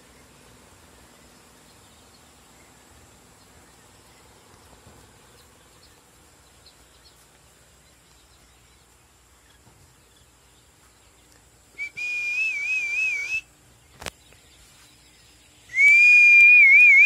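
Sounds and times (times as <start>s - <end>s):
quail chicks peeping: 0.0s - 11.8s, 13.5s - 15.8s
background hiss: 0.0s - 17.0s.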